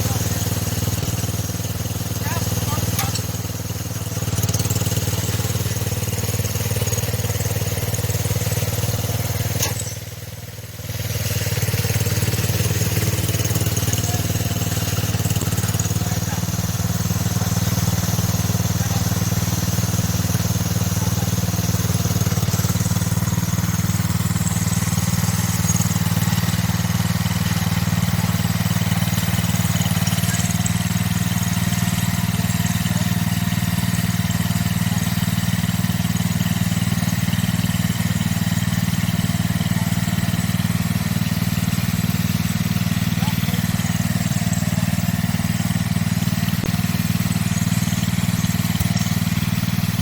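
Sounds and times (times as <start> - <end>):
garden tractor engine running: 0.0 - 50.0.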